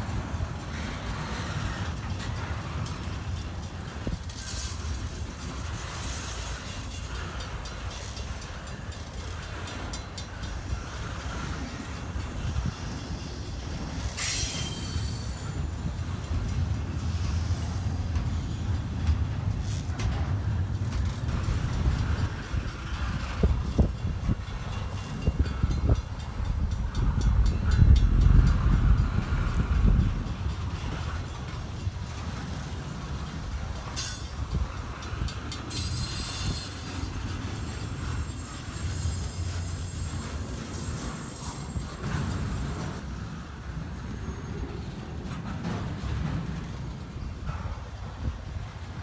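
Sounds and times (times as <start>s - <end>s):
train wheel squeal: 0.0s - 20.3s, 21.2s - 43.2s, 44.0s - 48.3s
freight train cars rumbling: 0.0s - 49.0s.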